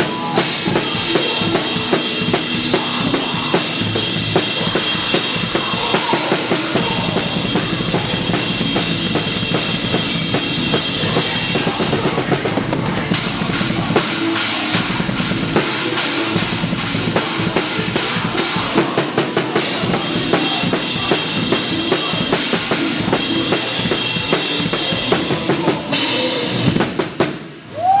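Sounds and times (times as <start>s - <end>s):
band playing live: 0.0s - 28.0s.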